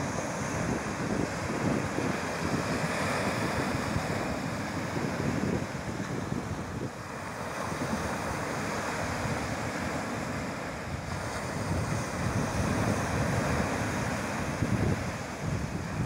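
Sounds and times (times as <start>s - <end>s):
sea waves breaking on beach: 0.0s - 16.0s
wind buffeting microphone: 0.0s - 16.0s.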